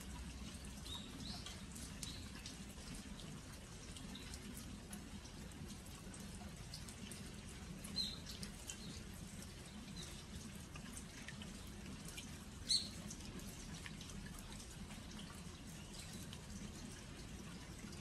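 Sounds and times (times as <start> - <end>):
rain dripping on earthenware jars: 0.0 - 18.0
steady hush of rain: 0.0 - 18.0.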